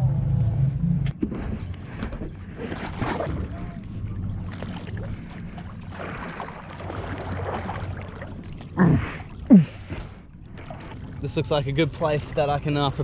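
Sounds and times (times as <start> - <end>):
boat engine hum: 0.0 - 13.0
water noise: 0.0 - 13.0.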